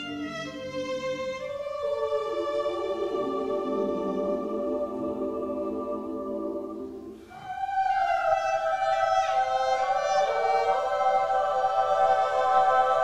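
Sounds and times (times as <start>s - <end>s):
solo violin: 0.0s - 5.8s, 6.4s - 13.0s
choir singing: 0.0s - 13.0s.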